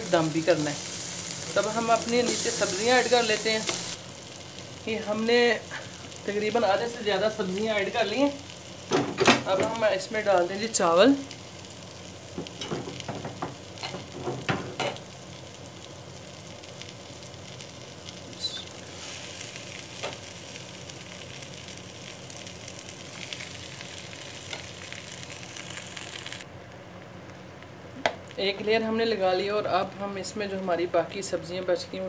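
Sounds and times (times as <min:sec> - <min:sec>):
steady low hiss: 0:00.0 - 0:32.0.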